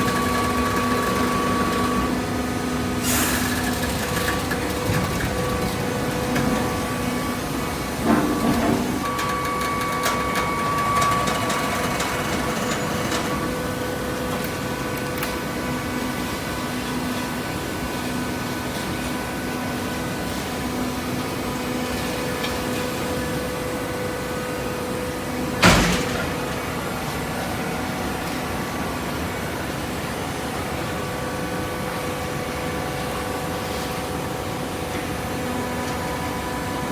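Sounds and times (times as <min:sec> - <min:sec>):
motor and hydraulic pump humming: 0:00.0 - 0:36.9.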